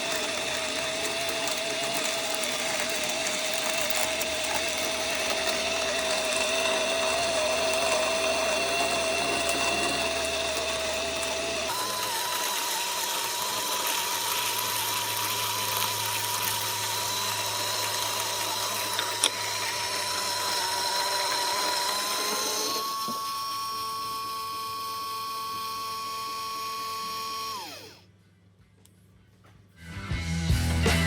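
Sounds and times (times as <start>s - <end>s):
beans grinding: 0.0s - 28.0s
coffee grinder motor whine: 0.0s - 28.0s.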